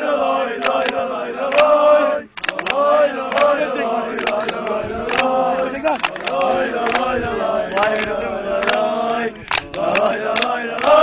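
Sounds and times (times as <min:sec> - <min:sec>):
men chanting in unison: 0:00.0 - 0:11.0
hand claps: 0:00.6 - 0:01.7, 0:02.3 - 0:11.0.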